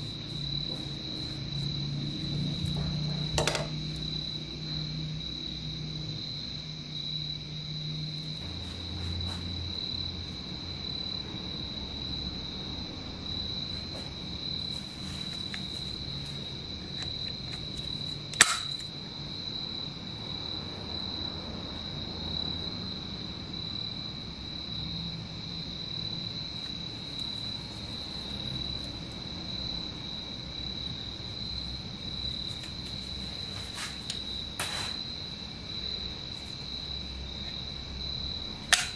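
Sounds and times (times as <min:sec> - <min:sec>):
cricket trill: 0:00.0 - 0:38.9.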